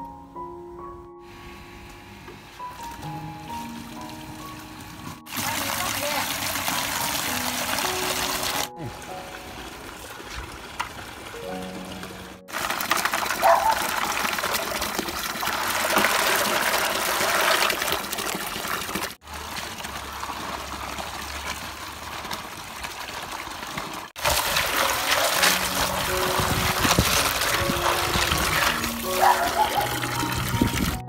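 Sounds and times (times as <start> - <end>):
water trickling and splashing: 2.9 - 31.0.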